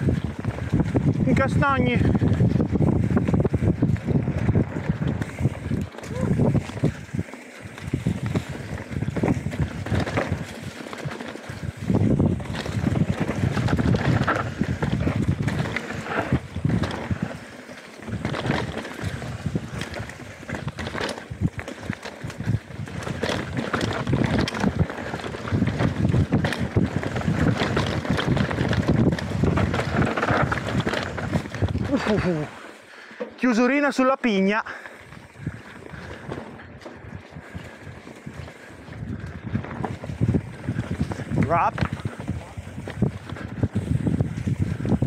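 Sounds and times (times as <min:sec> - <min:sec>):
bike knocks and rattles: 0:00.0 - 0:32.4, 0:35.0 - 0:45.0
wind buffeting microphone: 0:00.0 - 0:32.6, 0:35.0 - 0:45.0
tyres rolling over dirt: 0:00.0 - 0:45.0.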